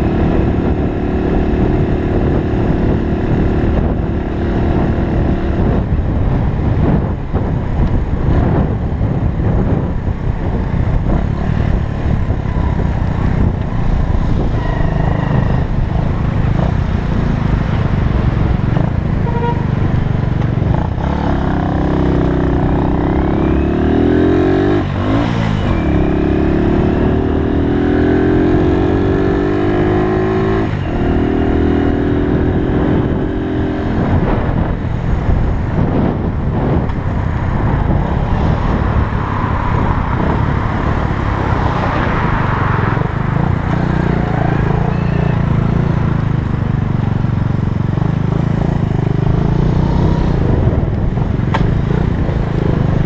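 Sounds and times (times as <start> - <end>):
motorcycle engine shifting gears: 0.0 - 53.0
wind rush on microphone: 0.0 - 53.0.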